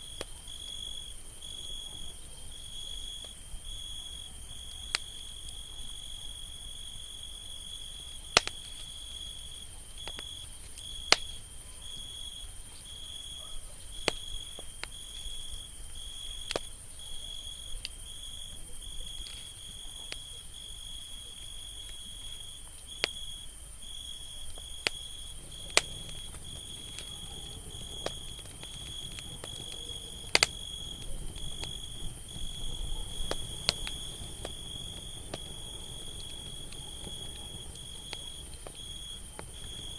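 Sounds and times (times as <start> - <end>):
campfire crackling: 0.0 - 13.2, 21.0 - 39.9.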